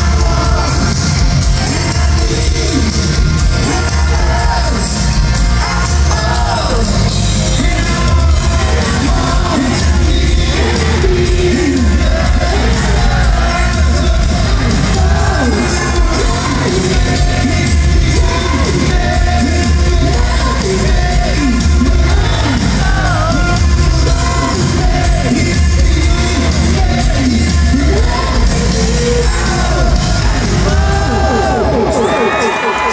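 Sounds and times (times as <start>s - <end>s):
live rock band playing: 0.0s - 32.9s
person singing: 0.0s - 32.9s.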